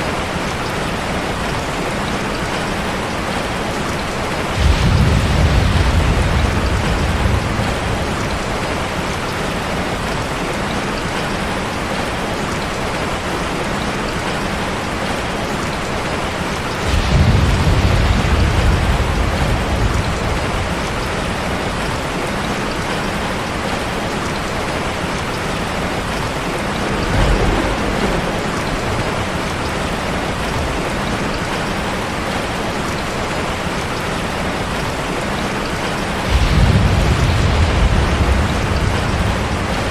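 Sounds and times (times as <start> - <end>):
heavy rain: 0.0 - 39.9
low rolls of thunder: 2.5 - 11.2, 14.3 - 34.0, 35.8 - 39.9.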